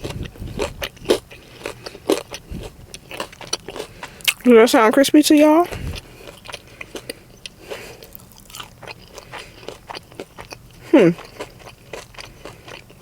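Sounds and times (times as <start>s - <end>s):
crunching and chewing food: 0.0s - 13.0s.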